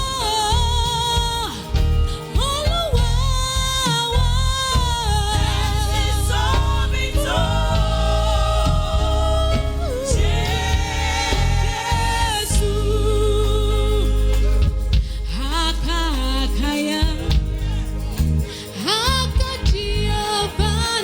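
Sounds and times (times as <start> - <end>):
gospel singing: 0.0 - 21.0
steady bass line: 0.0 - 21.0.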